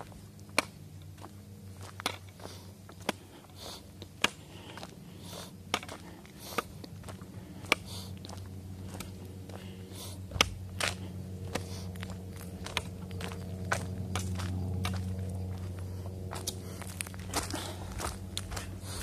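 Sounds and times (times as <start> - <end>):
crunchy footsteps on a path: 0.0 - 19.0
steady low hum: 0.0 - 19.0.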